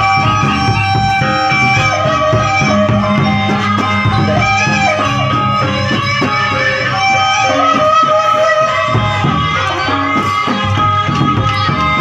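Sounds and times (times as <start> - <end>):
bamboo flute melody: 0.0 - 12.0
large drums beating: 0.0 - 12.0.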